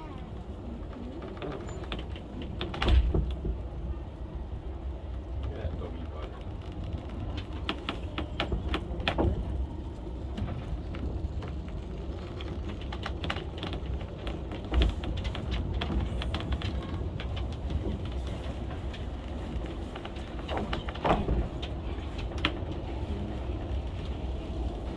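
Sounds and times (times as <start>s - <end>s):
railway car rumbling on track: 0.0s - 24.9s.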